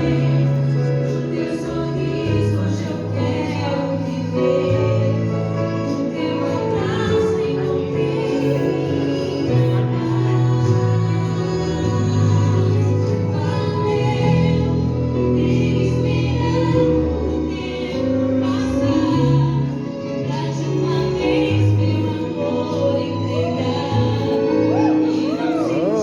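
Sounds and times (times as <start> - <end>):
woman singing: 0.0 - 26.0.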